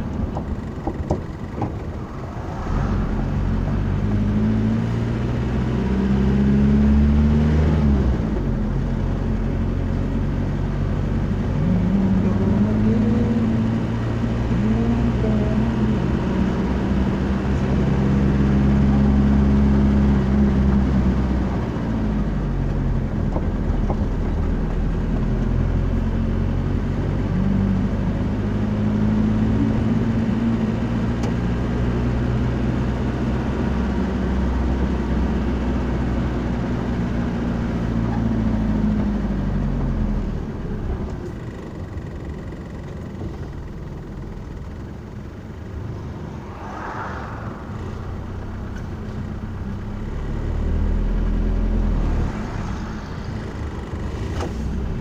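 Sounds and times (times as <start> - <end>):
vehicle engine droning: 0.0 - 55.0.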